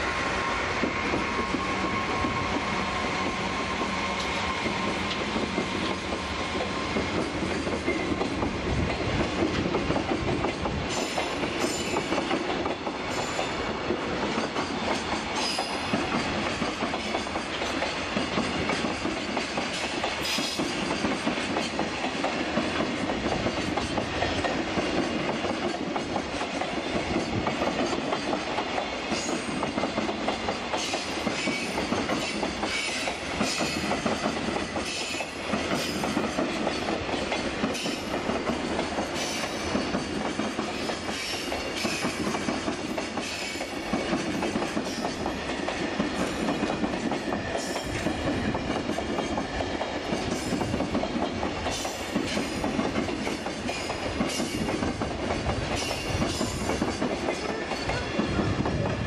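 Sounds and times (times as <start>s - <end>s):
freight train rolling past: 0.0s - 59.0s
train wheels clicking on rail joints: 0.0s - 59.0s.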